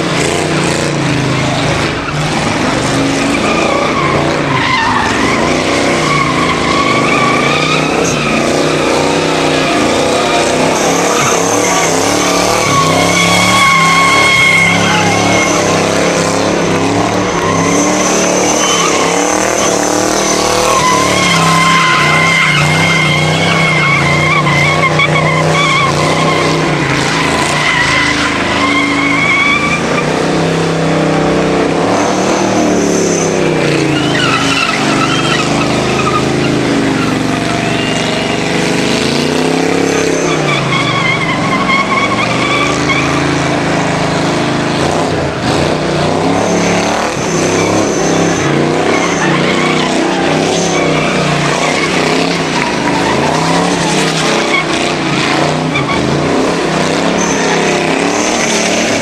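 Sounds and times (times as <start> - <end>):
car engine revving: 0.0 - 59.0
tyres squealing: 0.0 - 59.0.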